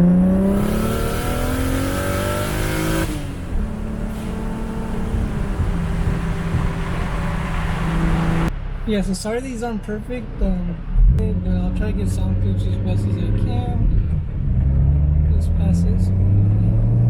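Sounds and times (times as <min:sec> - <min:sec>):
car engine accelerating: 0:00.0 - 0:09.2, 0:09.9 - 0:17.0
car engine droning: 0:00.0 - 0:17.0.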